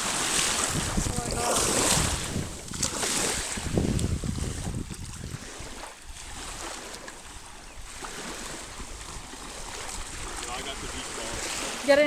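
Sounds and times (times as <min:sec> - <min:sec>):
waves and water hissing: 0:00.0 - 0:12.0
wind buffeting microphone: 0:00.0 - 0:12.0.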